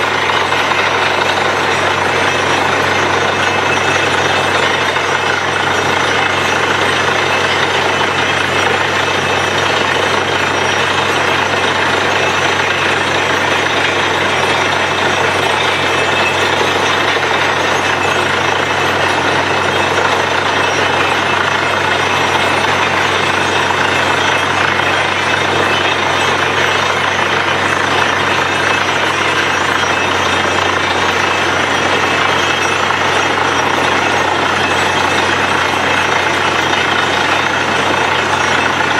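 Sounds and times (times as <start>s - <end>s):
drilling machine running: 0.0s - 38.9s.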